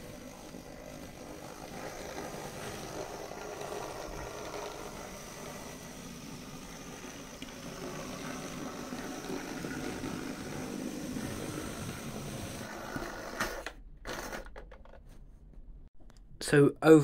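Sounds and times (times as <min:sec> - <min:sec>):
model train motor whirring: 0:00.0 - 0:14.5.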